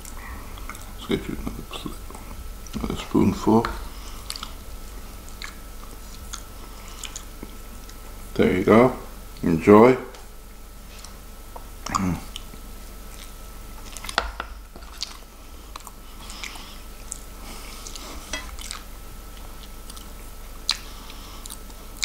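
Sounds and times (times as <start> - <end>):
close chewing: 0.0 - 8.0, 10.9 - 14.2, 14.8 - 22.0.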